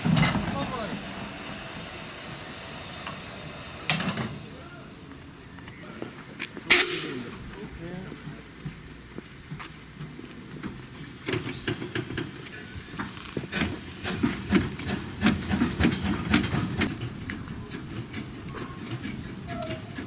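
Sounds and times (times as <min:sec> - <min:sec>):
steam hissing from drain cocks: 0:00.0 - 0:05.0, 0:06.7 - 0:20.0
steam locomotive exhaust chuffs: 0:00.0 - 0:20.0.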